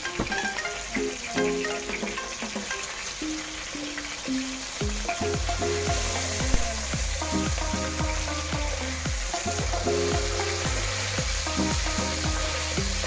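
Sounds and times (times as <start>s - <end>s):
background music: 0.0s - 13.0s
burger patties sizzling in a pan: 0.0s - 13.0s.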